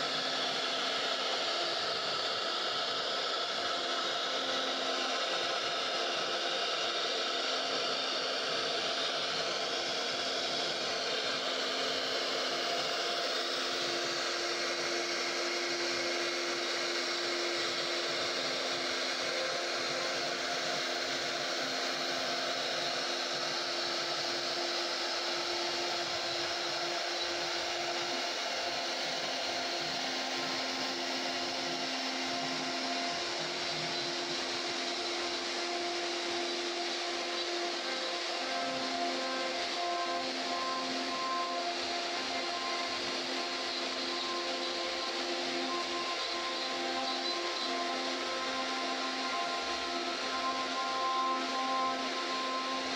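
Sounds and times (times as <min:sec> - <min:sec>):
cnc router milling wood: 0:00.0 - 0:52.9.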